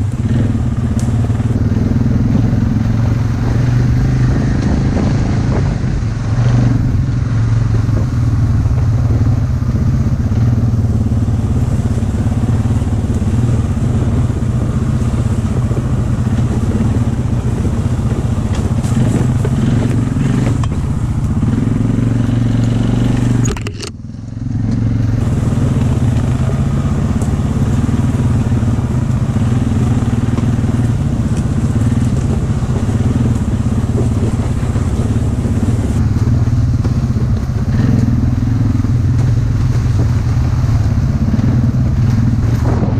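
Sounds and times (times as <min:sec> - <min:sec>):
quad bike engine running: 0:00.0 - 0:42.9.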